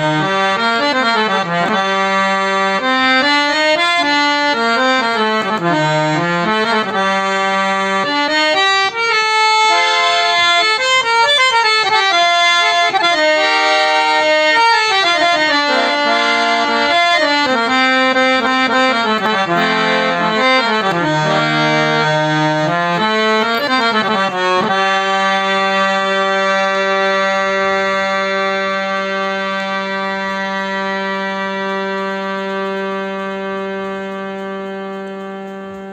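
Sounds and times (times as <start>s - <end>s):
harmonium playing: 0.0s - 35.9s.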